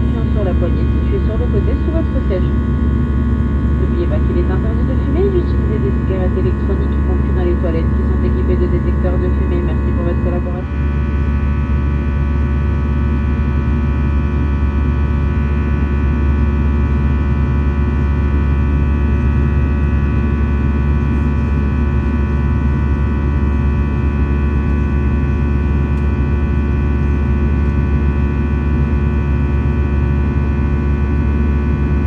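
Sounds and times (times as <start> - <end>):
jet engine rumble and whine: 0.0 - 32.0.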